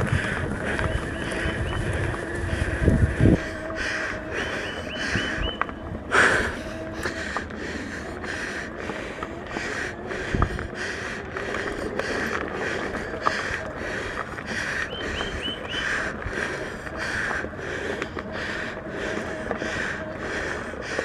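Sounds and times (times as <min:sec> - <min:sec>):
person panting heavily: 0:00.0 - 0:21.0.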